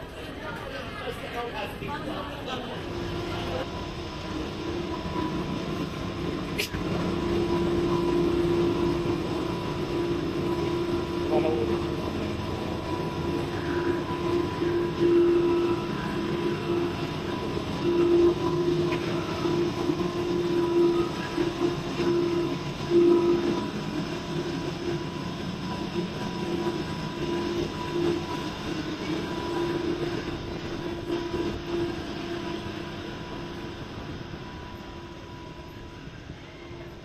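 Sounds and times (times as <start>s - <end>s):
ferry engines humming: 0.0s - 37.0s.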